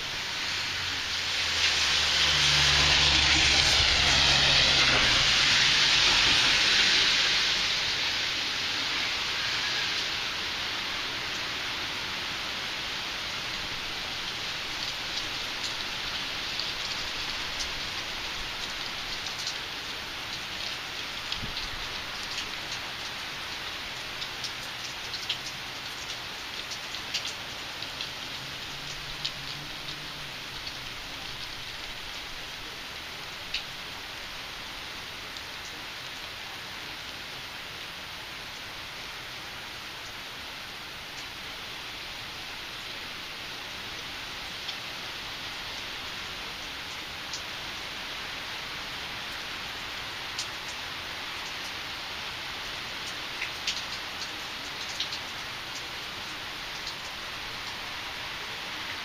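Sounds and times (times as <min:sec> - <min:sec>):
steady rain falling: 0:00.0 - 0:59.0
vehicle passing on wet road: 0:00.0 - 0:59.0.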